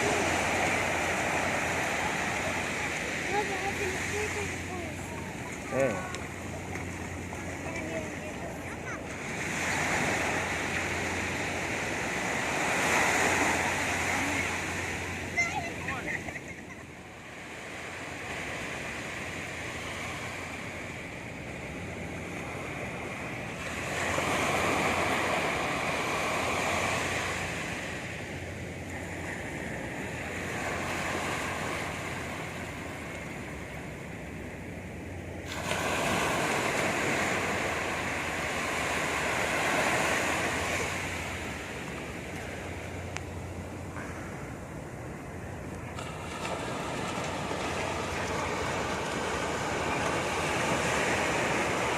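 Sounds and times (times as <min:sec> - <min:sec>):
sea waves washing onto beach: 0:00.0 - 0:51.9.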